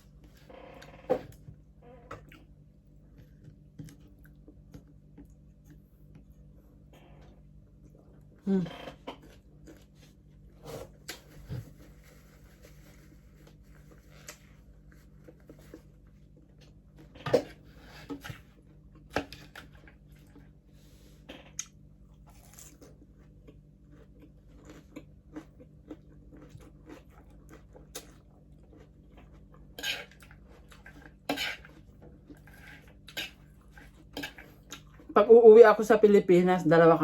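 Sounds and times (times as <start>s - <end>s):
chewing and crunching crispy food: 2.1s - 35.3s.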